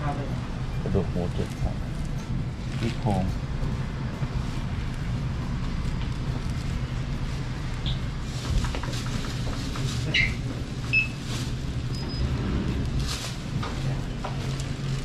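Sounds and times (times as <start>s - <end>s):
market background hum: 0.0s - 15.0s.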